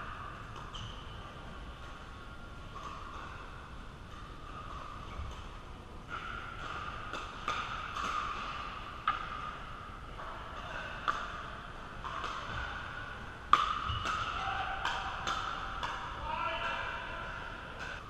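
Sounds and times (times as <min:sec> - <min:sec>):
indoor hall background noise: 0:00.0 - 0:18.0.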